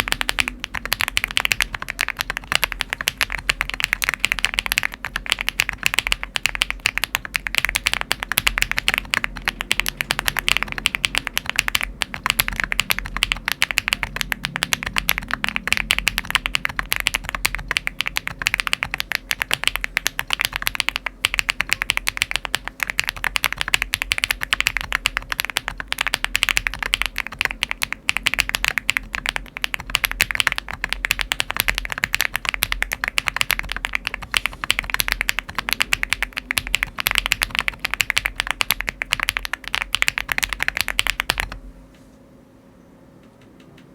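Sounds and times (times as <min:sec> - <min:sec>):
fast mechanical keyboard typing: 0:00.0 - 0:41.7.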